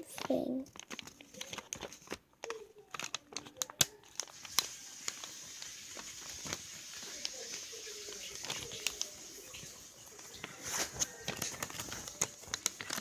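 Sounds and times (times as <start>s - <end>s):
paper being folded and creased: 0.0s - 13.0s.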